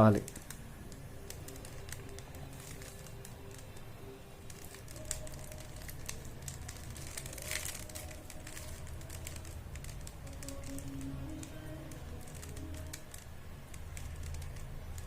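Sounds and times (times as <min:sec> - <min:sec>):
plastic puzzle cube clicking: 0:00.1 - 0:15.0.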